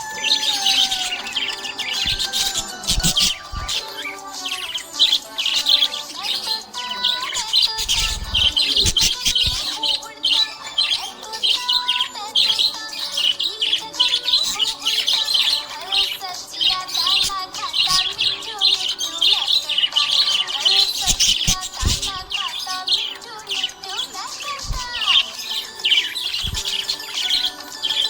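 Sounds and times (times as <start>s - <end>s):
budgerigars chirping: 0.0s - 28.0s.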